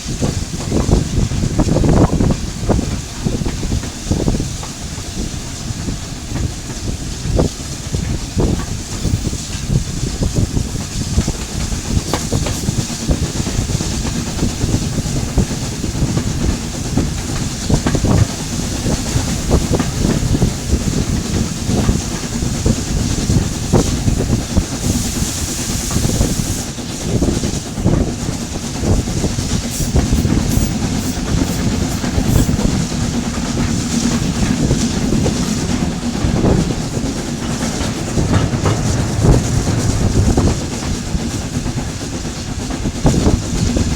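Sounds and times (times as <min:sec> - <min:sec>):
steam hiss: 0:00.0 - 0:43.9
train rumbling: 0:00.0 - 0:43.9
wheels clicking over rail joints: 0:00.0 - 0:43.9.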